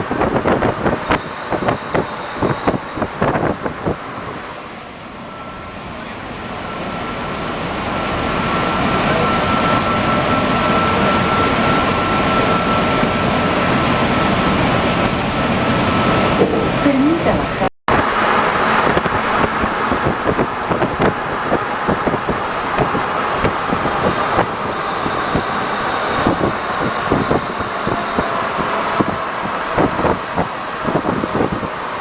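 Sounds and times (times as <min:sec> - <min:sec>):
metro train running: 0:00.0 - 0:32.0
steady high whine: 0:00.0 - 0:32.0.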